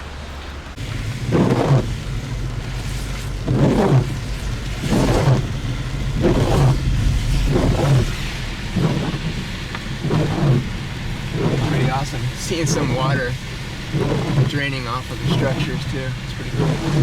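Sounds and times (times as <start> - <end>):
car driving rumble: 0.0 - 17.0
rain: 0.0 - 17.0
windshield wipers swishing: 0.0 - 17.0.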